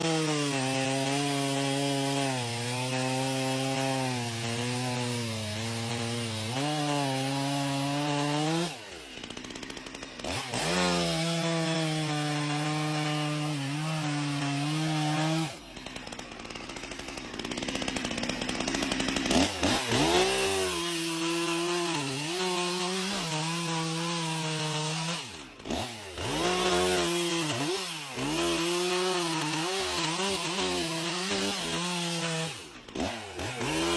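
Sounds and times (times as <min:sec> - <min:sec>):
chainsaw sawing wood: 0:00.0 - 0:33.9.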